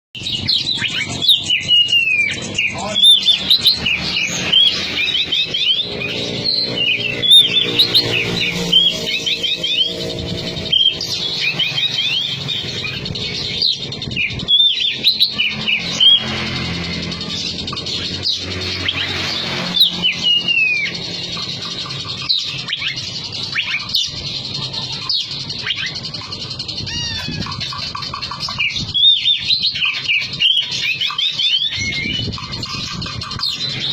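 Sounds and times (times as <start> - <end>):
magpie-robin singing: 0.2 - 33.9.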